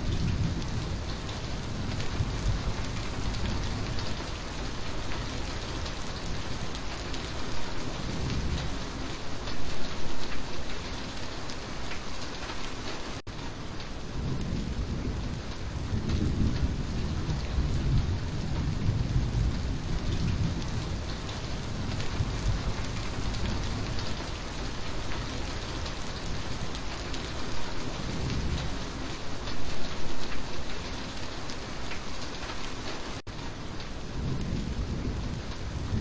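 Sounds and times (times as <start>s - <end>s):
low rumble of thunder: 0.0s - 10.7s, 13.5s - 31.0s, 32.4s - 36.0s
steady rain: 0.0s - 36.0s.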